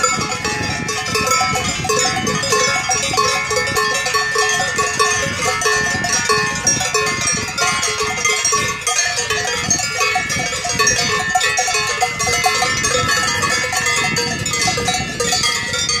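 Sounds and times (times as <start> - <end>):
cowbells clanging: 0.0 - 16.0.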